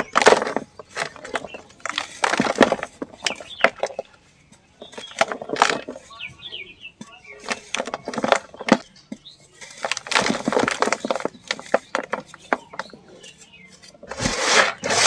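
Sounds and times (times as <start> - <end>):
cement chunks crunching: 0.0 - 15.0.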